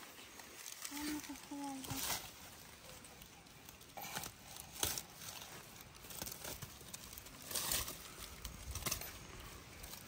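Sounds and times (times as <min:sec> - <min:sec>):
vines and leaves rustling: 0:00.0 - 0:10.0.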